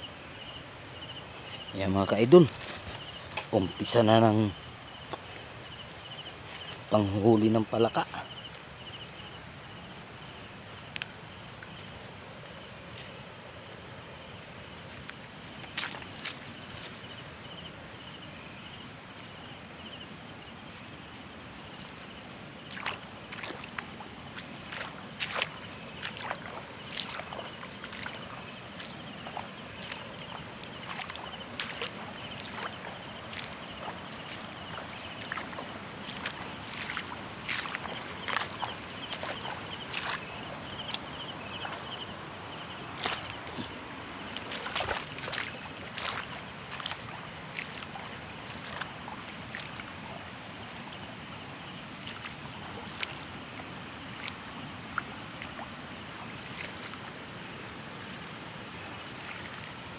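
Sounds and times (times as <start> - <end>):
high insect trill: 0.0 - 59.9
rushing water: 0.0 - 59.9
sloshing footsteps in wet grass: 0.1 - 59.9.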